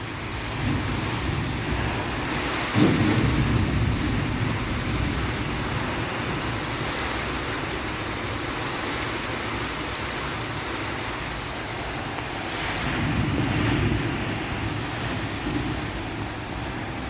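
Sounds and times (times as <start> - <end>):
gusty wind: 0.0 - 17.0
heavy rain falling: 0.0 - 17.0.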